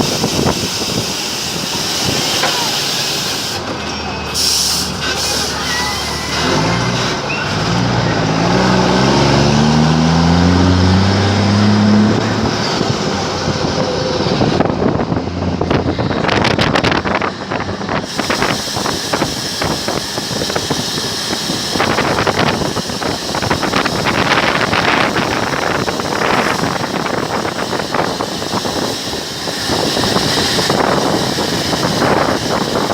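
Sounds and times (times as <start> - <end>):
wind noise: 0.0 - 3.6, 9.6 - 32.9
loud truck engine revving: 0.0 - 32.9.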